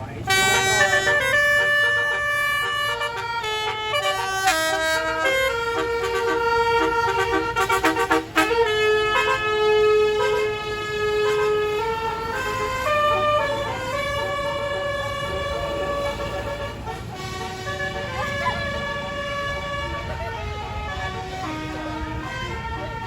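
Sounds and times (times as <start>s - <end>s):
multi-trumpet air horn melody: 0.2s - 23.0s.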